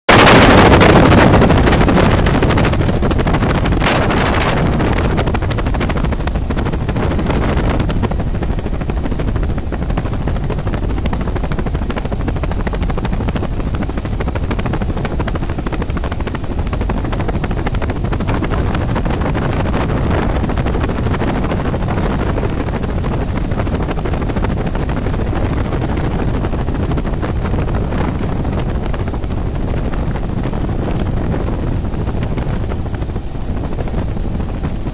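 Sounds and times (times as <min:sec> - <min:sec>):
helicopter rotor and engine drone: 0:00.1 - 0:34.9.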